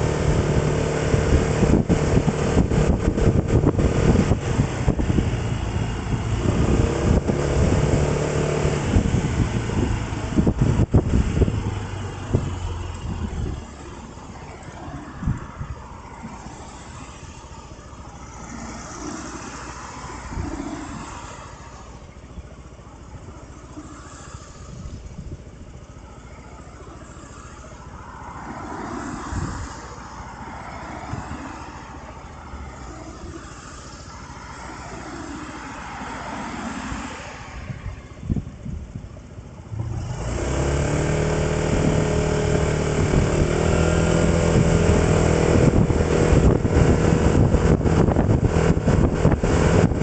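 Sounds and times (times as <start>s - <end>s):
road traffic: 0.0s - 50.0s.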